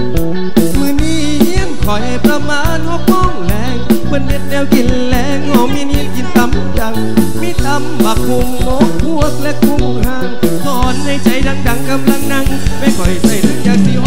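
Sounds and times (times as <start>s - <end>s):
bass line: 0.0s - 14.0s
drum beat: 0.0s - 14.0s.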